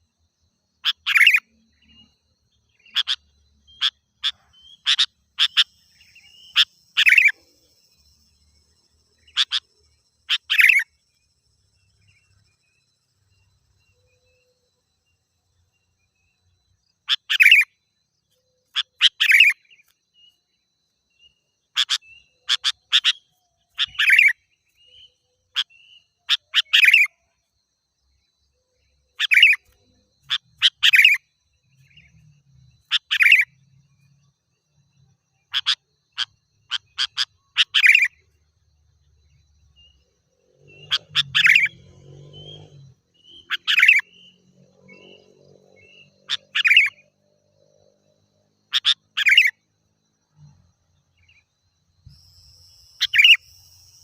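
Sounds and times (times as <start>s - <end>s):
bulbul chirping song: 0.0s - 54.0s.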